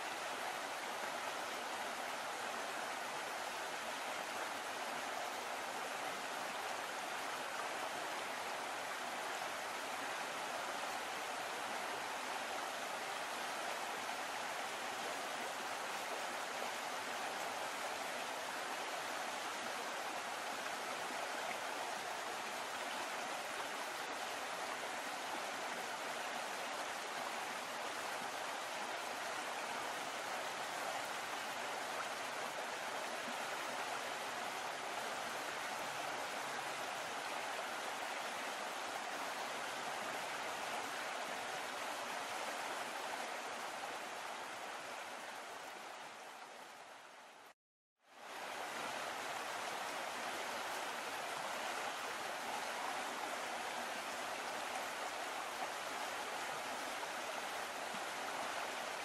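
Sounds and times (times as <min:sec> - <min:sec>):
river water rushing and splashing: 0:00.0 - 0:59.0.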